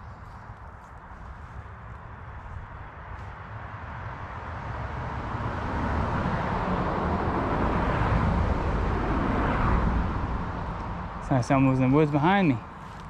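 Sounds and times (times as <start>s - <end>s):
vehicle tyre and road noise: 0.0s - 13.0s.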